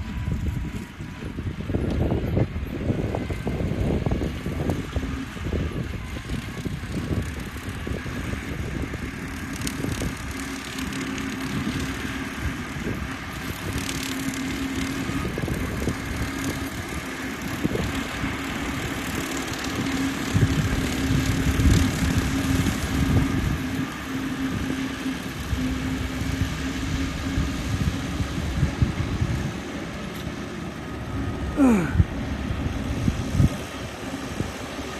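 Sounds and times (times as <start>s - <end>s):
lawn mower motor droning: 0.0s - 34.9s.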